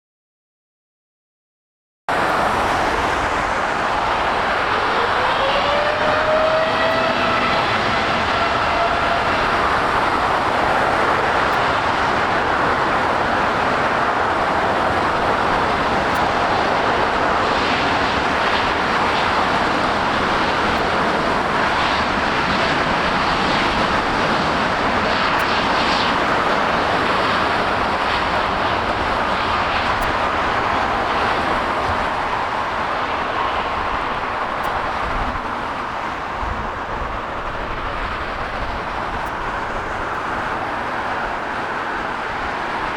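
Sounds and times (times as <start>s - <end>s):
jet engines roaring: 2.1s - 42.9s.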